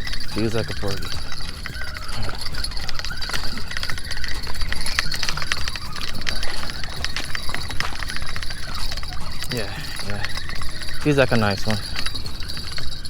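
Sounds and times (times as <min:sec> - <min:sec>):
fishing reel clicking and jingling: 0:00.0 - 0:13.0.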